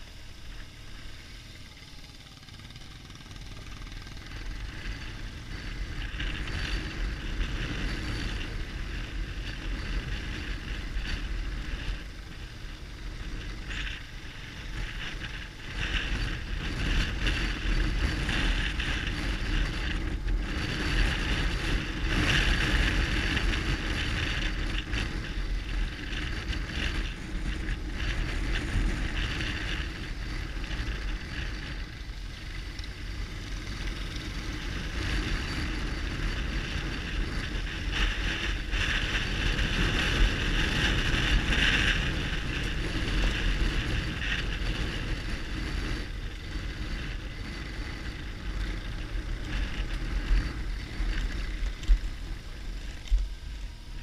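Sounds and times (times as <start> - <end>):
motorcycle engine running: 0.0 - 54.0
wind rushing over microphone: 3.9 - 54.0.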